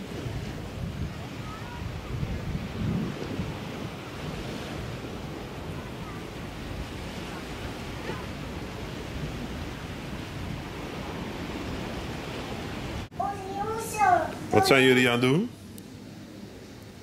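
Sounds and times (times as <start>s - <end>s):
wind across microphone: 0.0s - 14.6s
sea surf washing: 0.0s - 17.0s.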